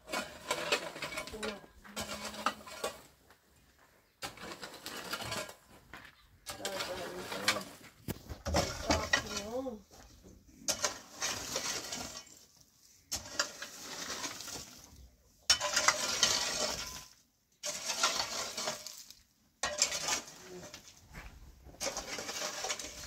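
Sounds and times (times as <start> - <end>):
metal hoe scraping dirt: 0.0 - 3.4, 4.0 - 23.0.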